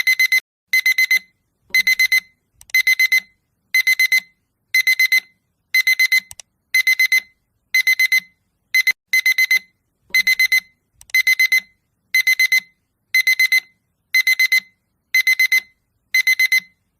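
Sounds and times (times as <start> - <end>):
alarm clock beeping: 0.0 - 16.8.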